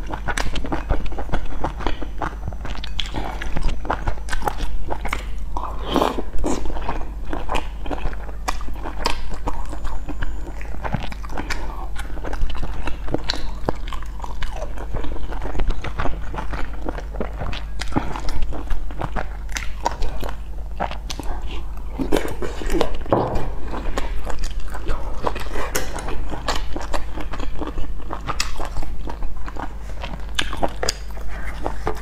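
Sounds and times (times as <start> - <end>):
person chewing and smacking: 0.0 - 32.0
steady low hum: 0.0 - 32.0.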